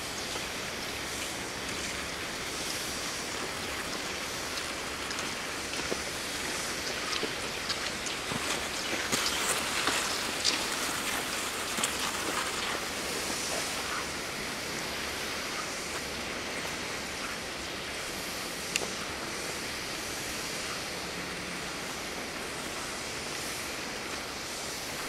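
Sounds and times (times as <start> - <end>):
skis hissing over snow: 0.0 - 25.0.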